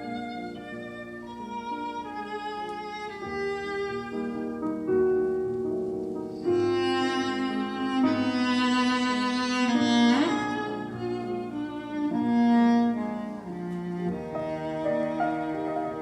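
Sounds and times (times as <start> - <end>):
classical string music with cello: 0.0 - 16.0.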